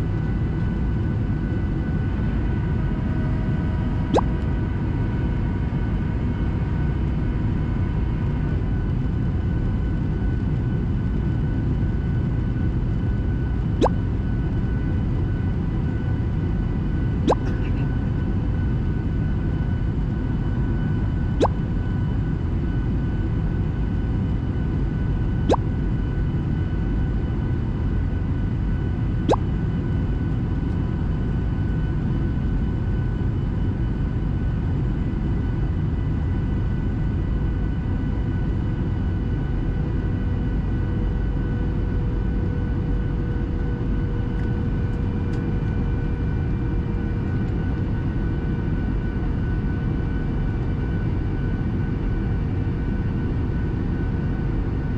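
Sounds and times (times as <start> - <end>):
airplane cabin engine rush: 0.0 - 54.9
faint steady whines: 0.0 - 54.9.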